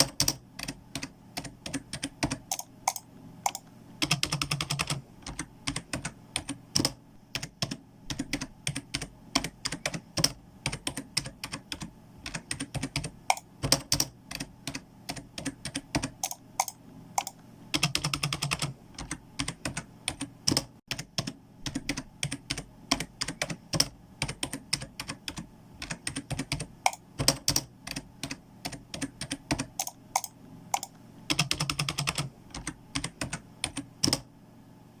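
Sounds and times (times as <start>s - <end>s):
typing on computer keyboard: 0.0s - 34.3s.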